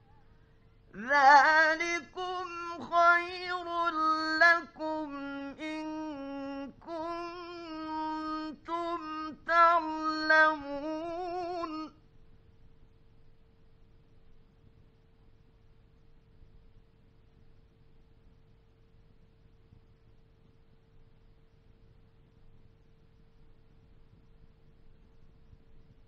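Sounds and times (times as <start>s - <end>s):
faint recording hum: 0.0s - 26.0s.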